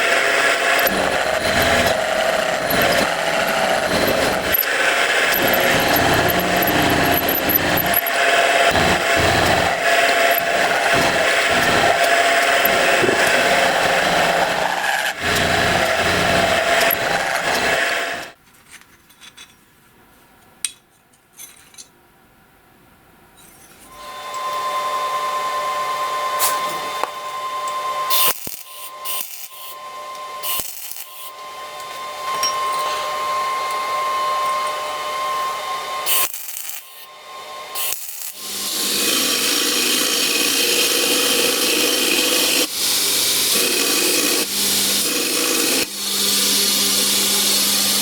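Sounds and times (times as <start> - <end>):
power tool grinding metal: 0.0 - 18.4, 26.4 - 48.0.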